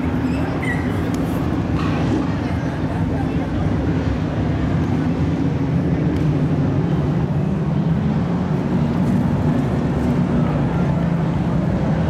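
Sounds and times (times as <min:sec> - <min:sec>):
race truck engines: 0:00.0 - 0:12.0.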